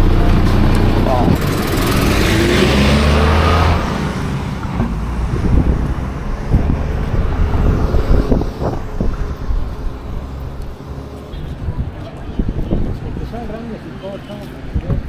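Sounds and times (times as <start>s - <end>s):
street traffic: 0.0s - 15.0s
wind buffeting microphone: 0.0s - 15.0s.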